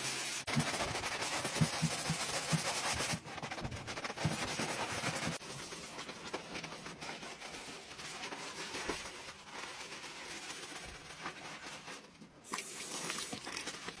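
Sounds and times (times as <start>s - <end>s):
sponge scrubbing tile: 0.0s - 14.0s.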